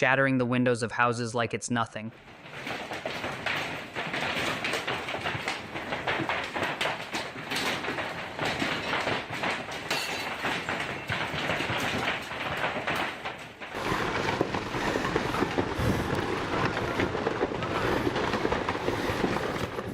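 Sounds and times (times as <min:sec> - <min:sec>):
hail clattering: 0:02.2 - 0:19.9.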